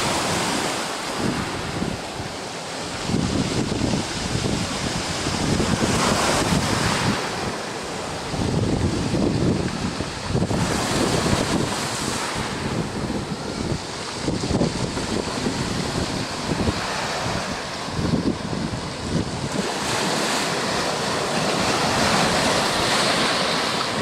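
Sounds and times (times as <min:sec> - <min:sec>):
sea waves breaking: 0:00.0 - 0:24.0
wind buffeting microphone: 0:00.0 - 0:24.0.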